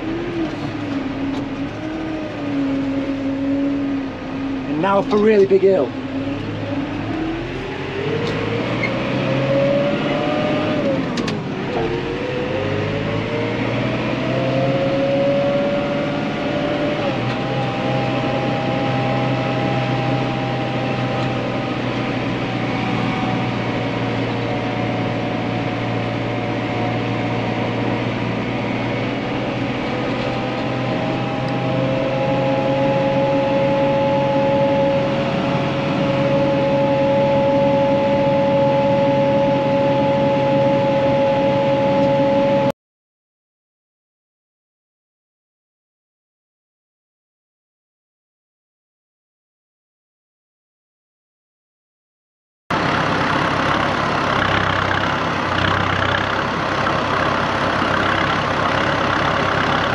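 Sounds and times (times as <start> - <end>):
tractor diesel engine pulling: 0.0 - 42.7, 52.7 - 59.9.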